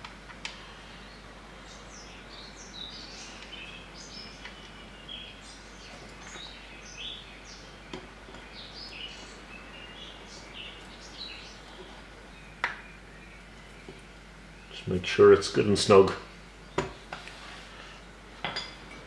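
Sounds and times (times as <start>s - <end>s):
small birds chirping: 0.0s - 18.2s
faint background hiss: 0.0s - 19.0s.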